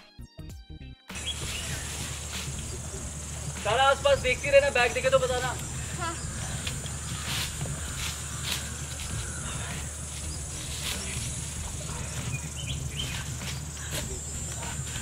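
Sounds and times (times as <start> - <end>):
footsteps crunching dry leaves: 1.1 - 15.0
insects buzzing: 1.1 - 15.0.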